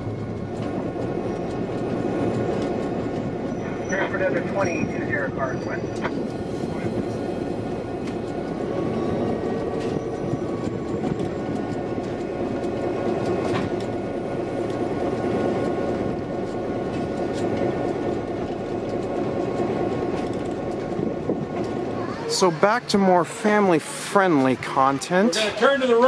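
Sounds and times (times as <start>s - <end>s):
rumble of wheels on rail: 0.0s - 26.0s.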